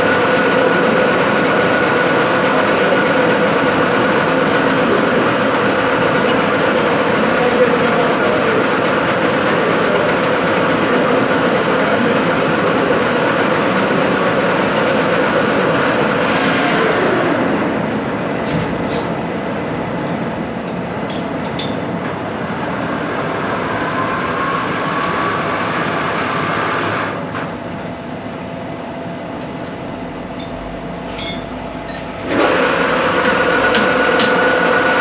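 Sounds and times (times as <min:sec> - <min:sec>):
machine tool running: 0:00.0 - 0:27.2, 0:31.8 - 0:35.0.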